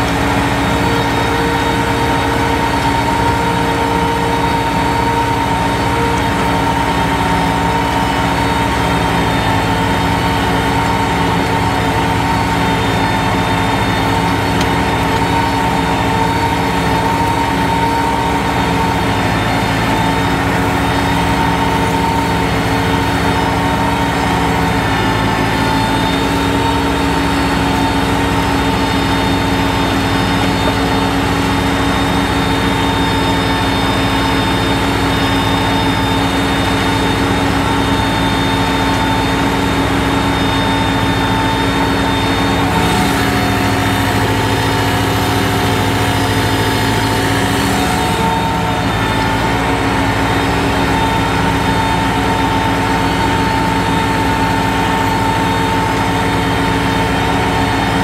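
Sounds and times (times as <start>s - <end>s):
high whine: 0.0s - 58.0s
tractor diesel engine under load: 0.0s - 58.0s.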